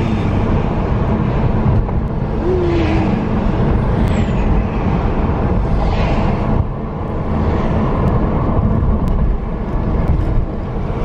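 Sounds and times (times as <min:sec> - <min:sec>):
road and engine rumble in car: 0:00.0 - 0:11.0.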